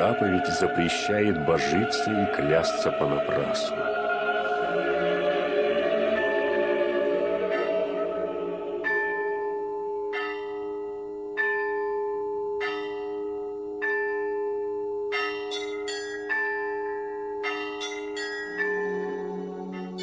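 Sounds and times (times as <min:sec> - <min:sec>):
church bells ringing: 0:00.0 - 0:05.2, 0:05.8 - 0:20.0.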